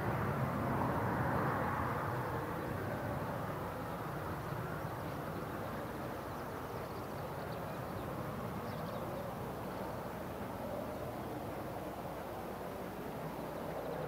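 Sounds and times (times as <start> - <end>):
distant aircraft engine: 0.0 - 14.0.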